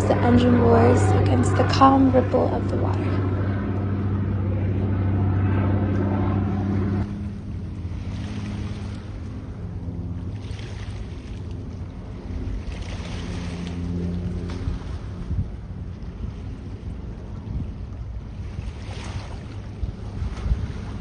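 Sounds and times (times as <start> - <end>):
water lapping: 0.0 - 5.1, 6.5 - 21.0
propeller engine droning: 0.0 - 21.0
wind buffeting microphone: 0.0 - 21.0.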